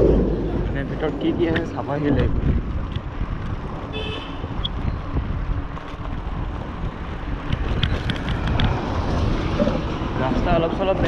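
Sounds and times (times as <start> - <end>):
bicycle rumbling over rough tarmac: 0.0 - 11.0
wind buffeting microphone: 0.0 - 11.0.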